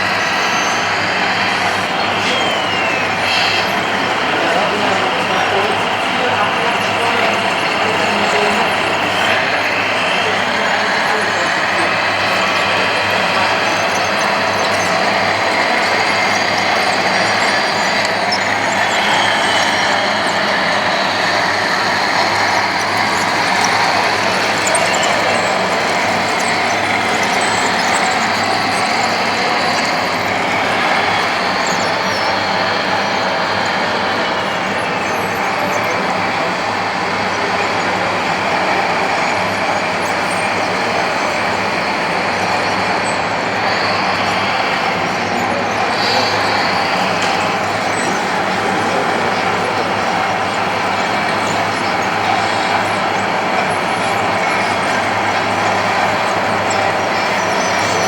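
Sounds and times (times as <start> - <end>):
mechanical hum: 0.0 - 58.0
model machines running: 0.0 - 58.0
motor and hydraulic pump whine: 0.0 - 58.0.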